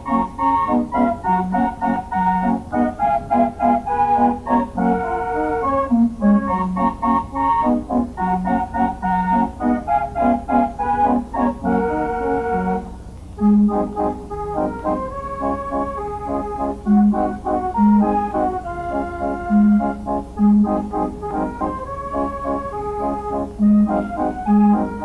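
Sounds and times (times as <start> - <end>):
organ music: 0.0 - 25.0.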